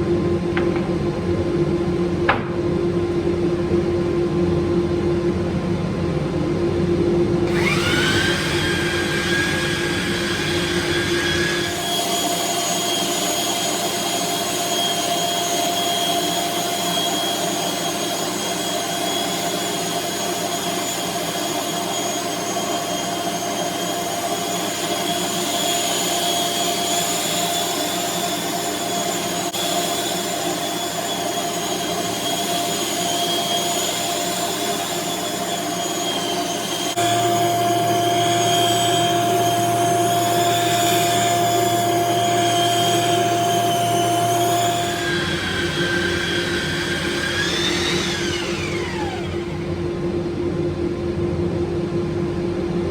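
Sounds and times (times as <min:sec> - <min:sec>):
power tool motor whining: 0:07.5 - 0:50.0.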